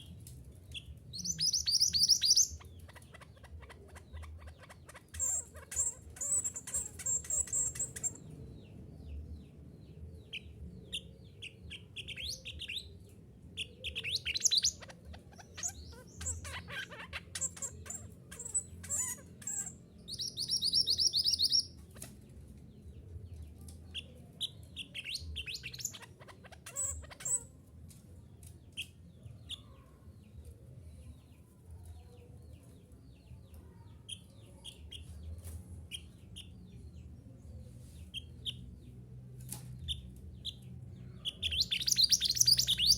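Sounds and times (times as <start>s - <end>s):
songbird chirping and trilling: 0.0s - 42.9s.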